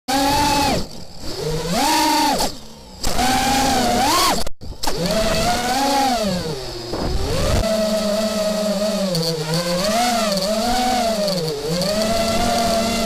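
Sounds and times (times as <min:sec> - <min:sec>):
drone motors and propellers whining: 0:00.1 - 0:13.0.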